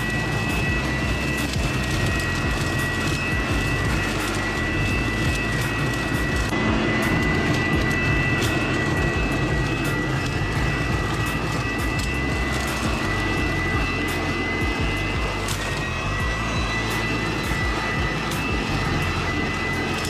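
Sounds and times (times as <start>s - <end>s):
leaf vacuum high whine: 0.0s - 20.0s.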